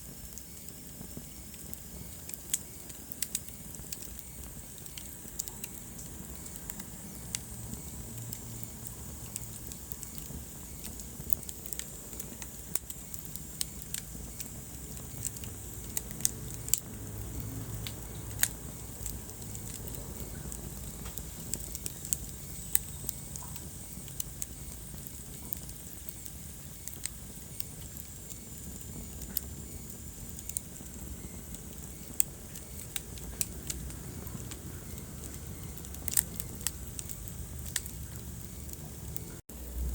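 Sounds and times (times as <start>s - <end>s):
low rumble of burning logs: 0.0s - 39.9s
wood fire crackling and popping: 0.0s - 39.9s.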